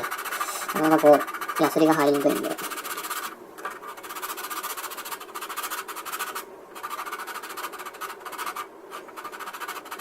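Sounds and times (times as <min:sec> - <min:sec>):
sandpaper scratching on plastic: 0:00.0 - 0:10.0.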